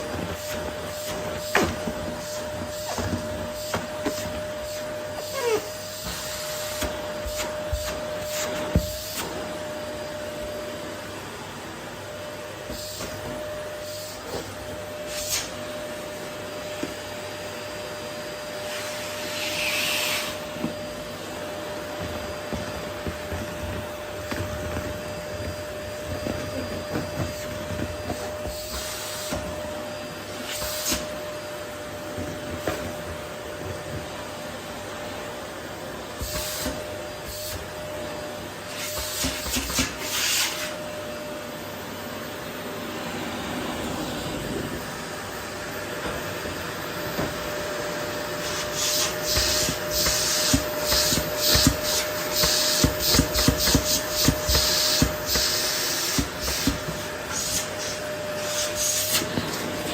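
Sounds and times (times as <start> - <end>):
vacuum cleaner whining: 0.0 - 59.9.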